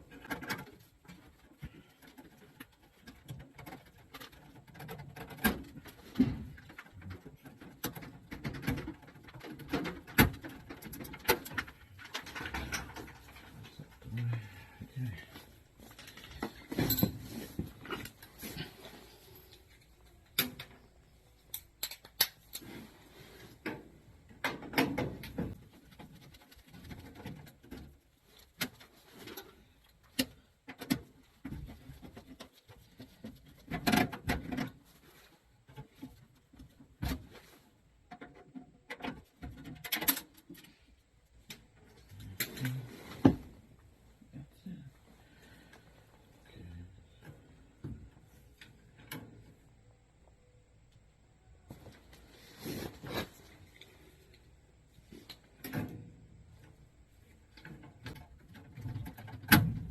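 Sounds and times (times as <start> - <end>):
hand tools and metal parts rattling: 0.0 - 50.0, 51.7 - 59.9.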